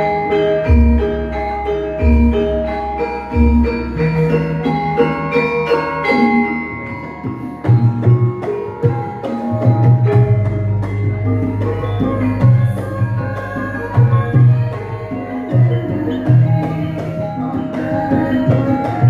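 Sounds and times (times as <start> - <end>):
metallophones ringing: 0.0 - 19.0.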